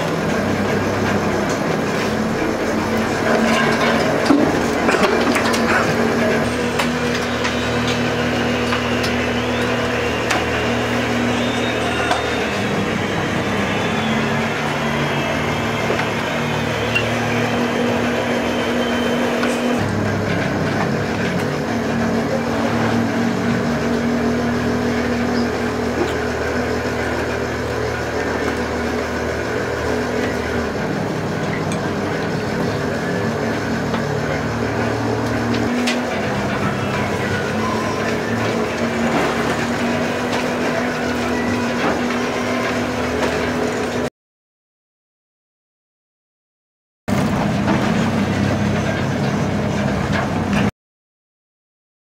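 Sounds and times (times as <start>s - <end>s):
boat engine humming: 0.0s - 44.1s, 47.1s - 50.7s
sea and deck noise: 0.0s - 44.1s, 47.1s - 50.7s.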